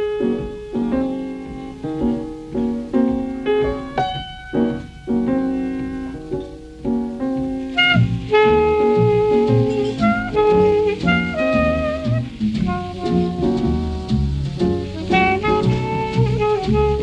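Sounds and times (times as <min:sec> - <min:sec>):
piano notes and chords: 0:00.0 - 0:17.0.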